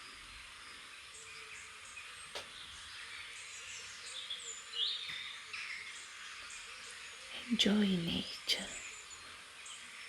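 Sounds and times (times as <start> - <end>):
outdoor ambience hiss: 0.0 - 10.0
birds chirping: 0.7 - 10.0.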